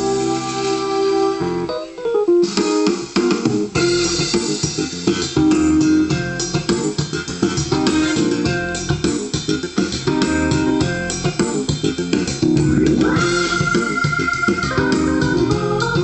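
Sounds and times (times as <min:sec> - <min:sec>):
keyboard music with guitar and bass: 0:00.0 - 0:16.0.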